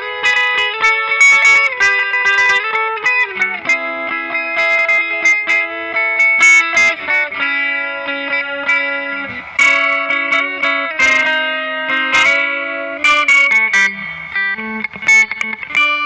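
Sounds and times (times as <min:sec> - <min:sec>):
twelve-string guitar playing: 0:00.0 - 0:16.0.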